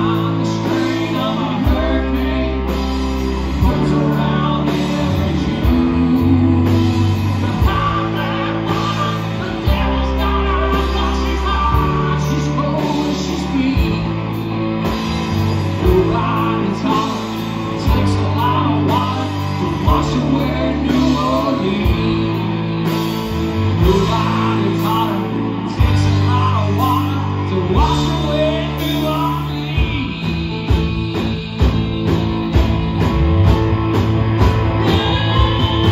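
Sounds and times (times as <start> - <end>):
steady drum beat: 0.0 - 25.2, 27.8 - 35.9
country-rock band playing: 0.0 - 35.9.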